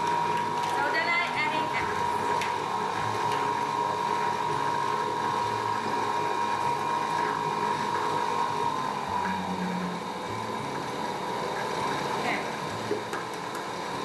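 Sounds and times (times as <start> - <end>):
electric mixer motor whine: 0.0 - 14.0.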